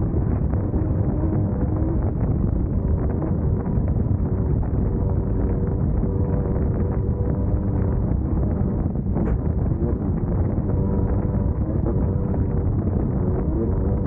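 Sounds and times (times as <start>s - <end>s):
buggy engine running: 0.0s - 14.0s
wind buffeting on microphone: 0.0s - 14.0s.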